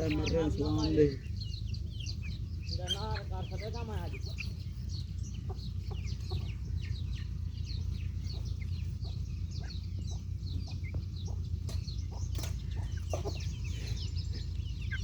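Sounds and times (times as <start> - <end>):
baby chicks peeping: 0.0 - 15.0
steady low hum: 0.0 - 15.0.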